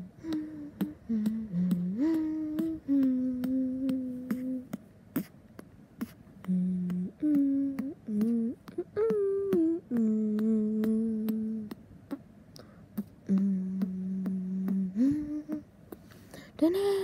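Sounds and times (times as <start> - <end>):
person humming: 0.0 - 17.0.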